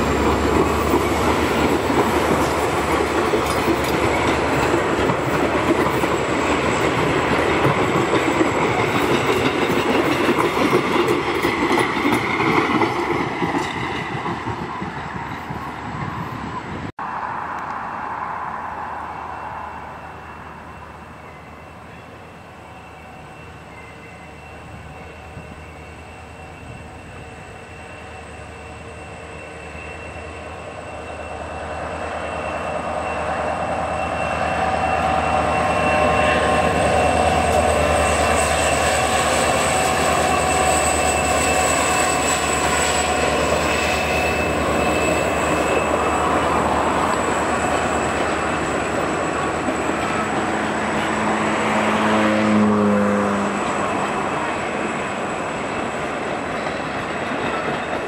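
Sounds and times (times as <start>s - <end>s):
coaches rumbling over rails: 0.0s - 58.0s
diesel locomotive engine: 0.0s - 58.0s.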